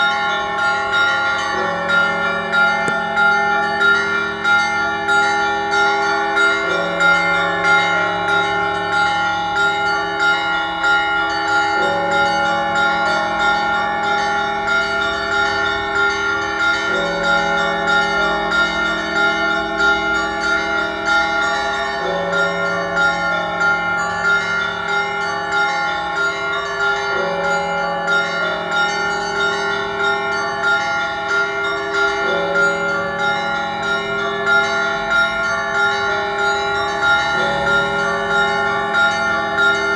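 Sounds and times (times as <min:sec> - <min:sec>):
deep bells ringing: 0:00.0 - 0:39.9
small bells ringing rapidly: 0:00.0 - 0:39.9.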